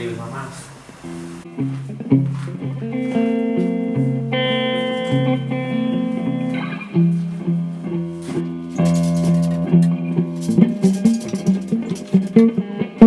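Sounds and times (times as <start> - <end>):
plucked guitar music: 1.1 - 13.0.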